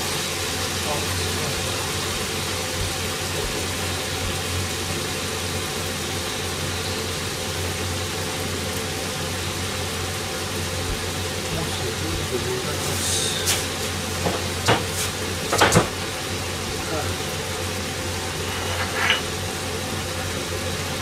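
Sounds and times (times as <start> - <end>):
low even hum: 0.0 - 21.0
meat frying in a pan: 0.0 - 21.0.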